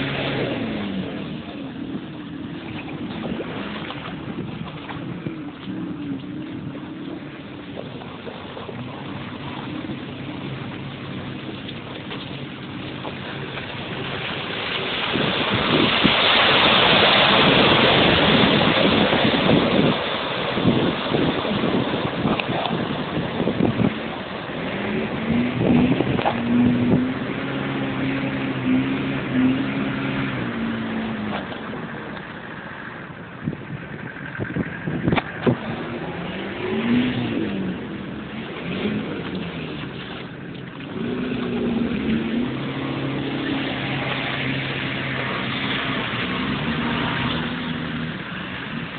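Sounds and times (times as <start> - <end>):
tyres splashing through muddy water: 0.0 - 48.9
vehicle engine running: 0.0 - 48.9.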